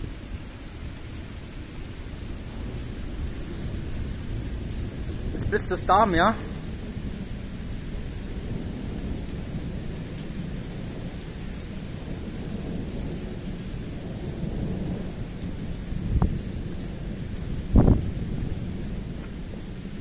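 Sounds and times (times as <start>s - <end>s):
rain: 0.0s - 20.0s
thunder rumbling: 0.0s - 20.0s
wind: 0.0s - 20.0s.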